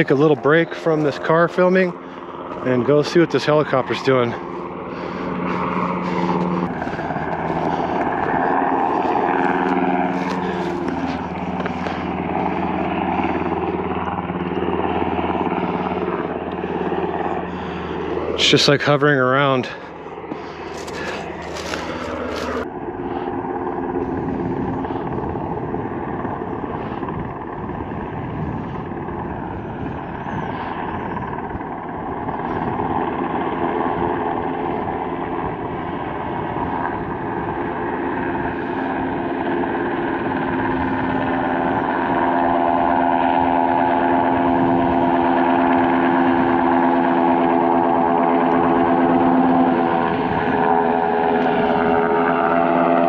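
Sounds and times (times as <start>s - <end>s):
helicopter hovering: 0.0s - 53.0s.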